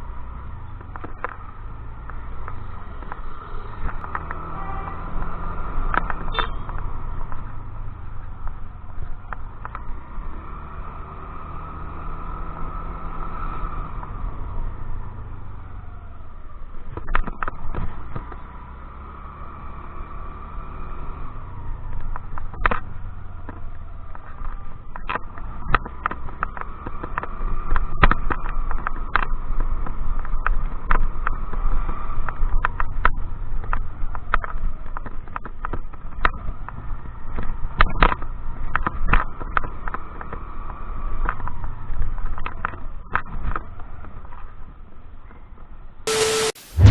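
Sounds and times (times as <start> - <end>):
wind and road rumble: 0.0 - 46.9.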